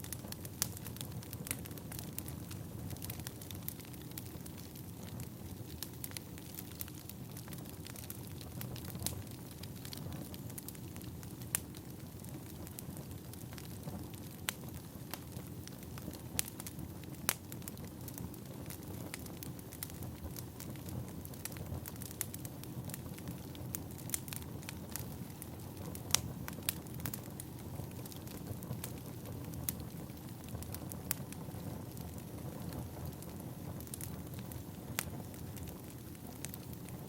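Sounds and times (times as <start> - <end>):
firewood crackling and popping: 0.0 - 37.0
flames rumbling: 0.0 - 37.0.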